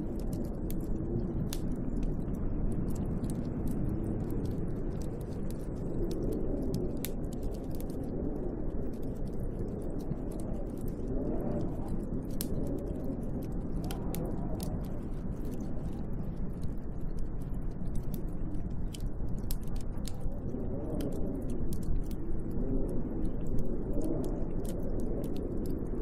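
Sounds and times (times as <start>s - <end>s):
faint crackling ticks: 0.0s - 26.0s
snowstorm wind gusting: 0.0s - 26.0s.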